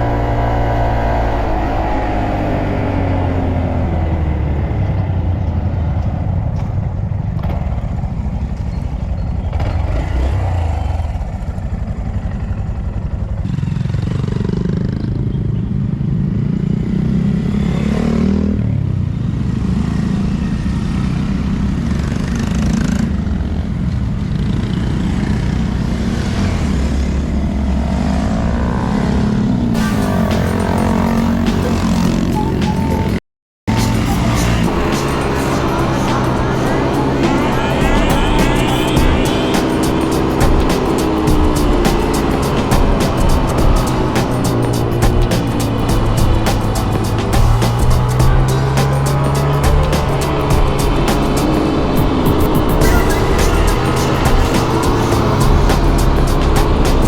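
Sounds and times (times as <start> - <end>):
motorcycle engine running: 0.0 - 17.5, 18.6 - 57.0.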